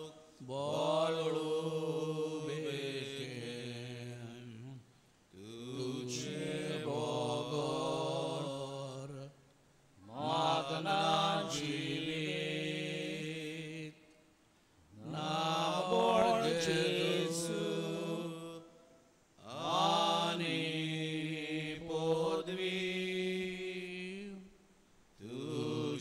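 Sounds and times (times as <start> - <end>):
person singing devotional chant: 0.0 - 4.8, 5.4 - 9.4, 10.0 - 14.2, 14.9 - 24.6, 25.2 - 26.0.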